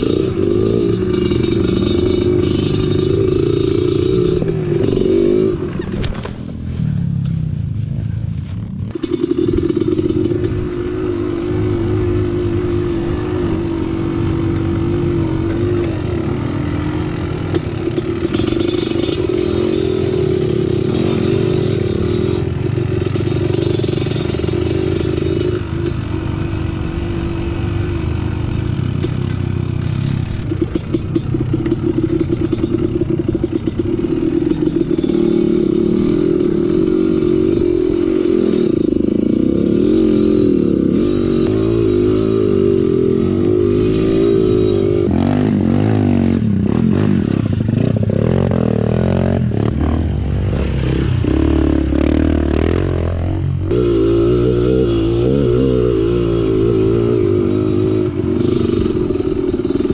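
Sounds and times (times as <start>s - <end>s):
motorcycle engine revving: 0.0s - 59.9s
motorcycle rattling over rough ground: 0.0s - 59.9s.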